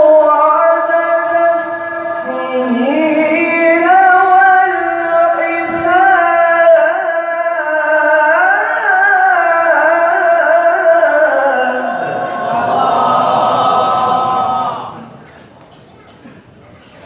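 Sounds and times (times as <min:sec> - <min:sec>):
man reciting melodically: 0:00.0 - 0:15.2.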